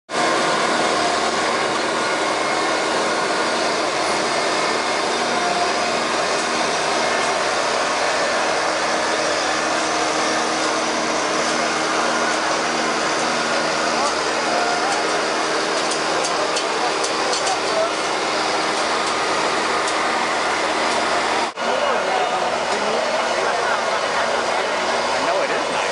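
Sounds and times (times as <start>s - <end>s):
machinery whirring: 0.1s - 25.9s.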